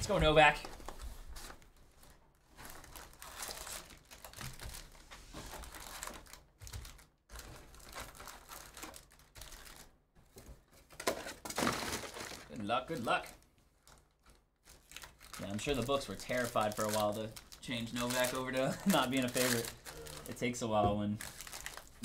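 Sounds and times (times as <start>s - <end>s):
cardboard rustling: 0.1s - 22.0s
plastic wrap crinkling and tearing: 0.4s - 10.0s, 10.7s - 22.0s.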